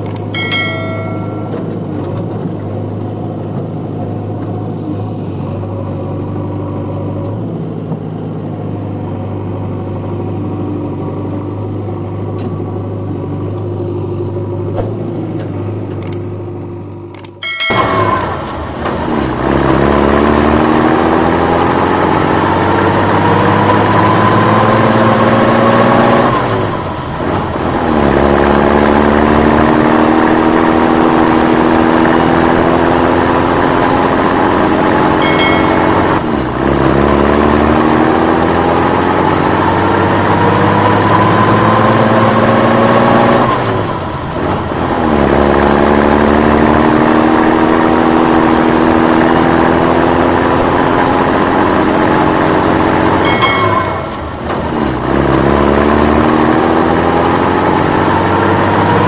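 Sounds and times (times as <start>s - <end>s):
engine accelerating in a loop: 0.0s - 59.0s.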